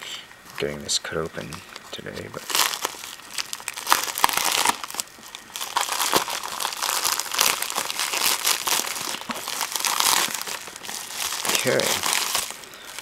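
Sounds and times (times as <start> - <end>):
bubble-wrap rustling: 1.4 - 13.0
plastic mailer crinkling and tearing: 1.4 - 13.0.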